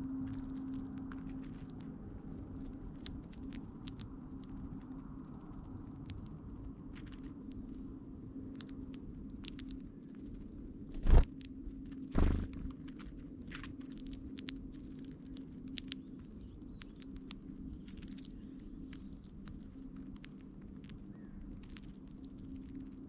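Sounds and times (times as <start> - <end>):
low steady hum: 0.0 - 23.0
birds cracking seeds: 0.3 - 23.0.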